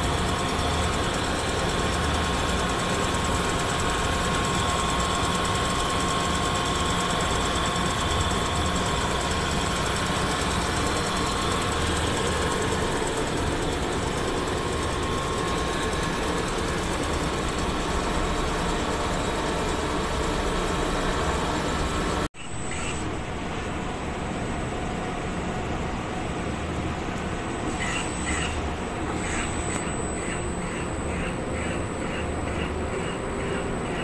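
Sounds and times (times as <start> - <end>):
notching machine running: 0.0 - 34.0
steady whining tones: 0.0 - 34.0.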